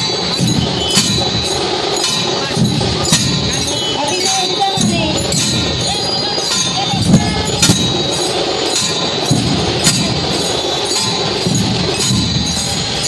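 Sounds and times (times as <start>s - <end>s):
crowd voices: 0.0s - 13.0s
hand cymbals clashing: 0.0s - 13.0s.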